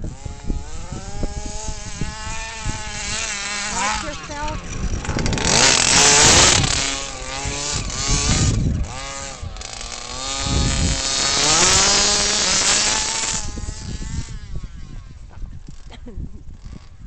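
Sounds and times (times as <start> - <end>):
small two-stroke engine revving: 0.0 - 17.0.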